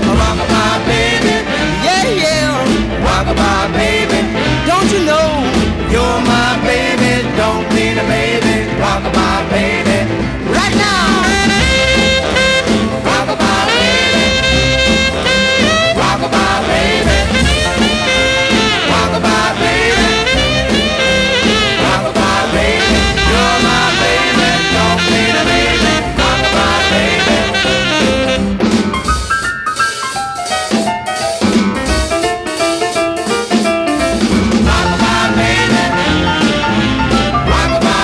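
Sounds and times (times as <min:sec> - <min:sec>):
horns sliding phrases: 0:00.0 - 0:29.0, 0:34.6 - 0:38.0
rhythm and blues band: 0:00.0 - 0:38.0.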